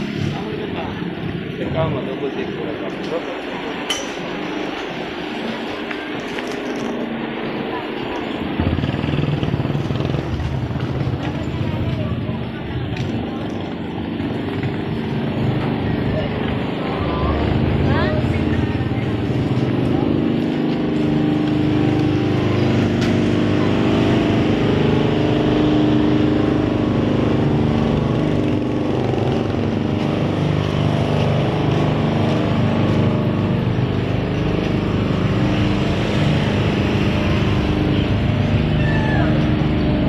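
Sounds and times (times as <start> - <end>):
road and traffic noise: 0.0 - 40.0
vehicle engine running: 0.0 - 40.0.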